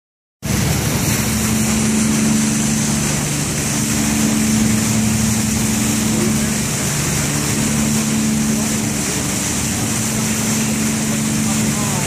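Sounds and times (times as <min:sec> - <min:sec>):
boat engine humming: 0:00.4 - 0:12.0
rushing water and wind: 0:00.4 - 0:12.0.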